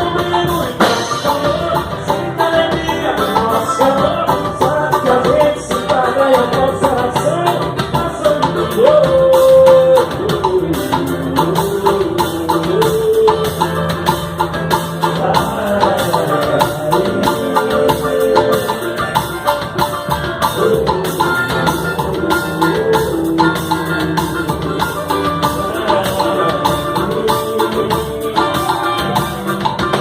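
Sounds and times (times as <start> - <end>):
fast hand percussion: 0.0 - 30.0
melodic line: 0.0 - 30.0.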